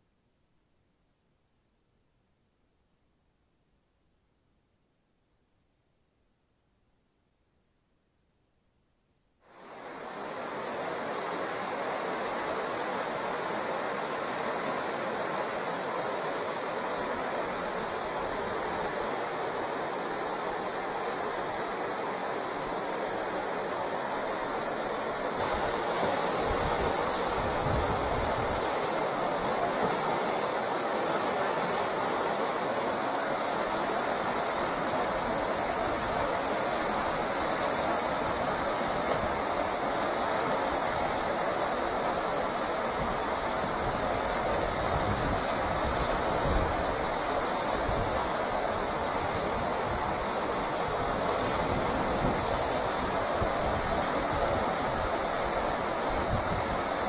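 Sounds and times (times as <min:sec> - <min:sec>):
river rapids rushing over rocks: 0:09.5 - 0:57.0.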